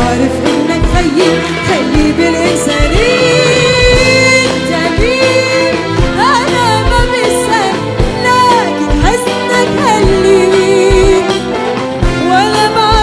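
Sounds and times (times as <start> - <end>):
band playing: 0.0 - 13.0
steady drum beat: 0.0 - 13.0
woman singing: 0.0 - 13.0.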